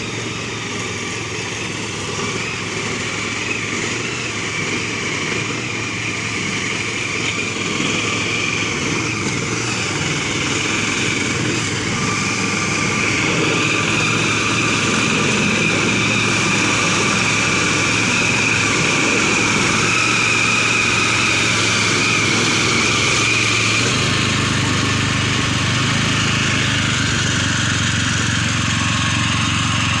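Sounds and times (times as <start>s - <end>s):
hand tractor engine running: 0.0s - 30.0s.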